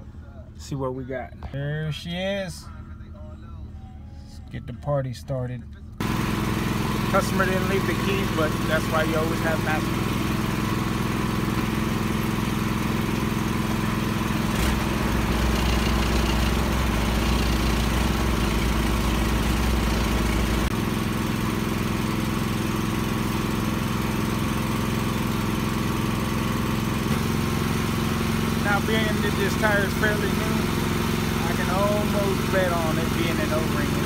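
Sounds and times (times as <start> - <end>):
wheel loader diesel engine running: 5.7 - 34.0.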